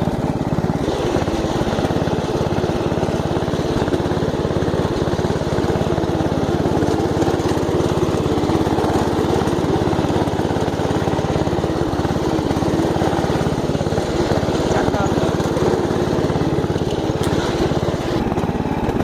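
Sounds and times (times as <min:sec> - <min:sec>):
riding lawn mower engine running: 0:00.0 - 0:19.0.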